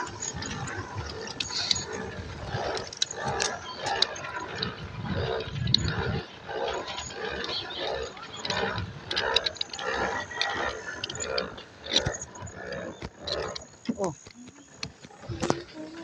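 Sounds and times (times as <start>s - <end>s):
water bike churning and creaking: 0.0s - 16.0s.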